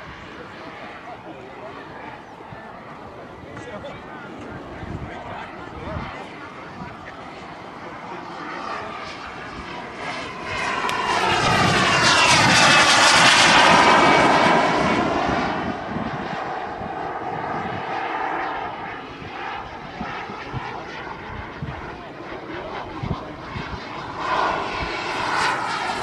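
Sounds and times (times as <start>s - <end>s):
model jet engine whine: 0.0s - 26.0s.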